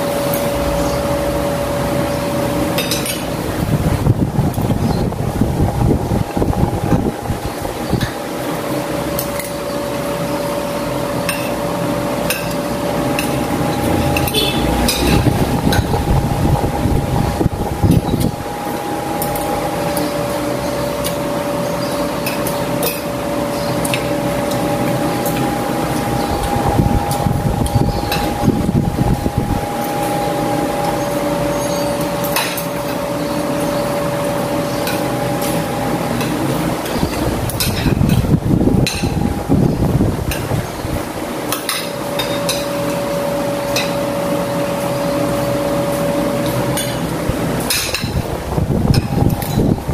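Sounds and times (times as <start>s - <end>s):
mechanical whir with whine: 0.0s - 49.9s
steady background hum: 0.0s - 49.9s.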